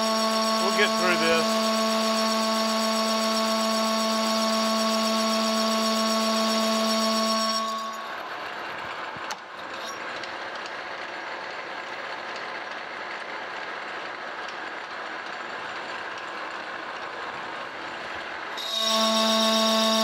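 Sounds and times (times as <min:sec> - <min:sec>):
metal lathe cutting: 0:00.0 - 0:20.0.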